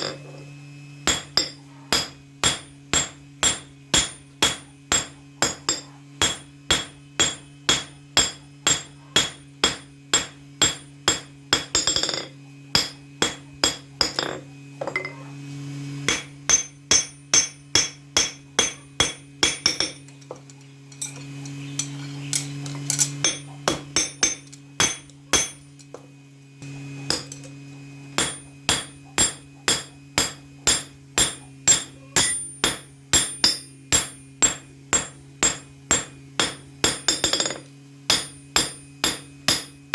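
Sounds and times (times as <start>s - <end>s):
hammer striking metal on anvil: 1.0s - 15.2s, 16.0s - 20.1s, 22.9s - 26.0s, 27.0s - 39.9s.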